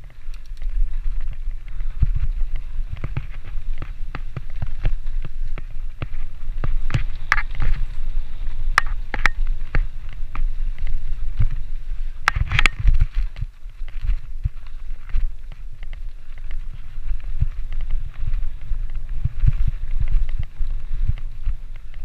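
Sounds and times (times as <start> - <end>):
bike rattling and knocking: 0.0 - 22.0
wind rumbling on microphone: 0.0 - 22.0.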